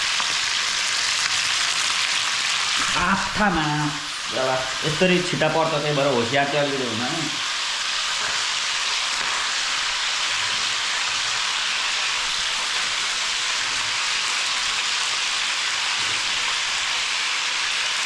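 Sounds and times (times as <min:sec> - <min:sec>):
chicken frying in hot oil: 0:00.0 - 0:18.0.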